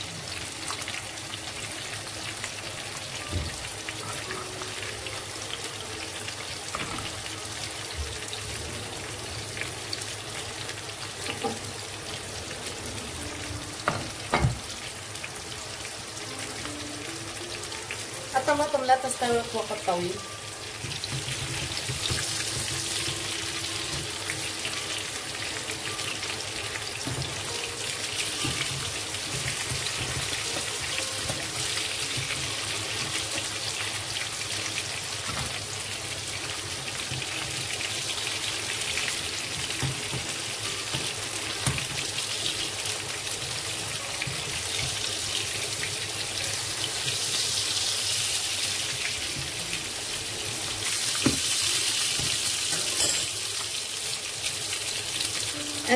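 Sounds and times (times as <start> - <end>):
tomatoes sizzling in oil: 0.0 - 55.9.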